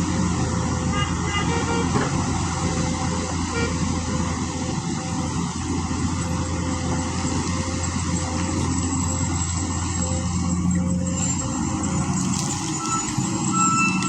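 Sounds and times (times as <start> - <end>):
diesel machinery engine hum: 0.0 - 14.0.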